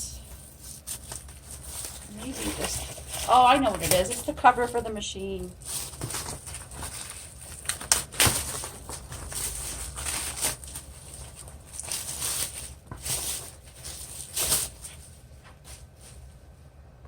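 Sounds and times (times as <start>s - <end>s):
plastic cover rustling and crinkling: 0.0s - 16.5s.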